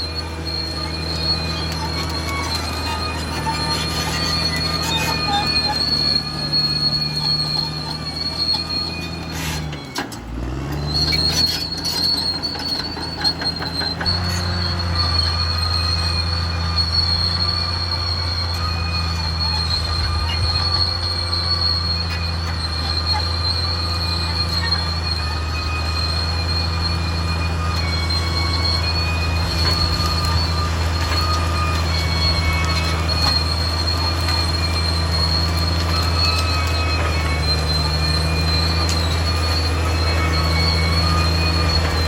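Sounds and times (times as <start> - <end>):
bulldozer diesel engine revving: 0.0 - 42.0
high-pitched track squeal: 0.0 - 42.0.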